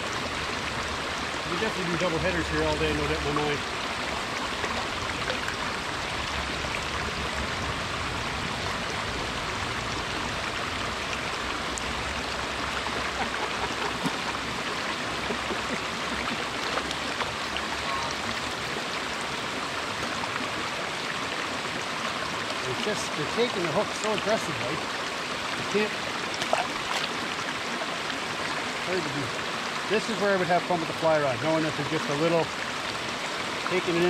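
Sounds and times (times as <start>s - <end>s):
brook water running: 0.0s - 34.0s.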